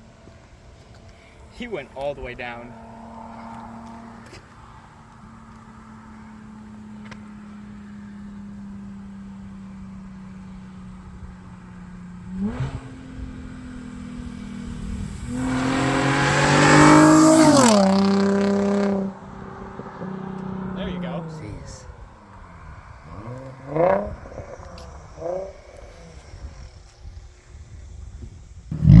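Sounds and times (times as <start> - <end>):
car engine revving and accelerating: 0.2 - 27.0, 28.7 - 29.0.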